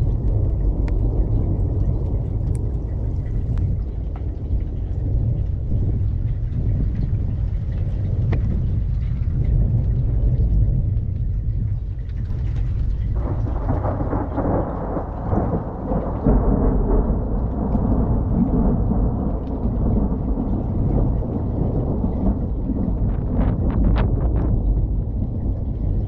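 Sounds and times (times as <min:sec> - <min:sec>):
thunder rumbling: 0:00.0 - 0:26.0.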